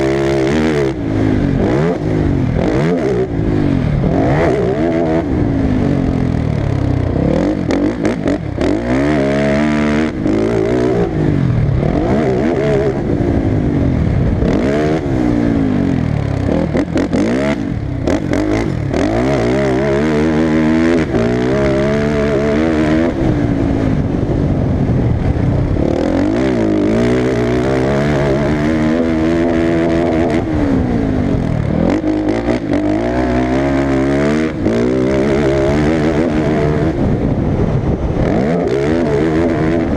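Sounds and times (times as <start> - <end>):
motocross engines revving: 0.0 - 39.9.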